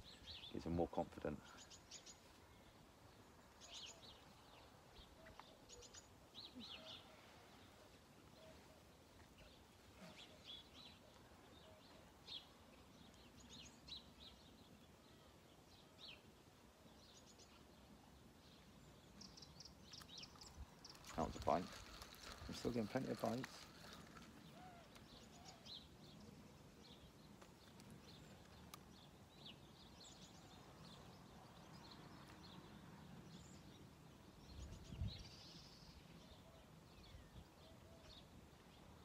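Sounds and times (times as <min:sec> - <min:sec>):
songbird chirps and twitters: 0:00.0 - 0:39.0.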